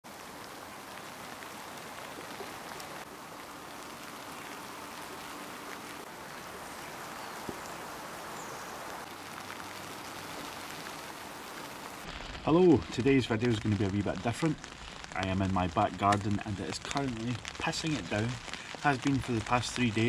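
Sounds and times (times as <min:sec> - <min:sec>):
heavy rain on tent: 0:00.0 - 0:20.0.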